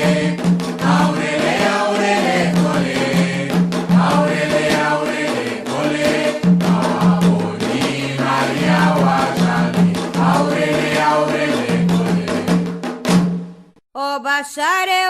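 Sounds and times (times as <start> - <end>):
group chanting: 0.0 - 12.7
drum and percussion strikes: 0.0 - 13.8.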